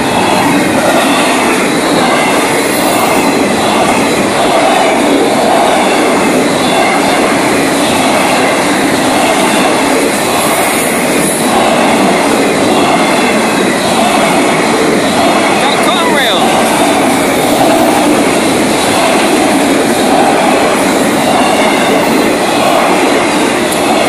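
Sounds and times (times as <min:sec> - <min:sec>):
freight train rolling past: 0:00.0 - 0:24.0.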